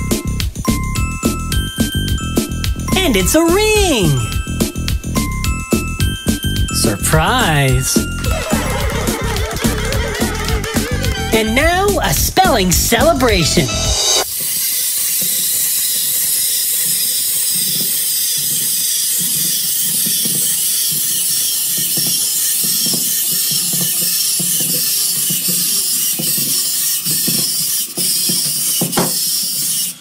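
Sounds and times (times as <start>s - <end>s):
wind-up toys whirring: 3.7s - 30.0s.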